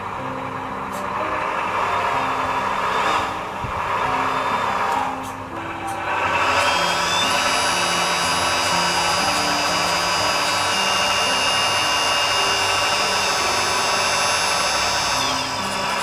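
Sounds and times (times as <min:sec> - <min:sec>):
hydraulic pump whining: 0:00.0 - 0:16.0.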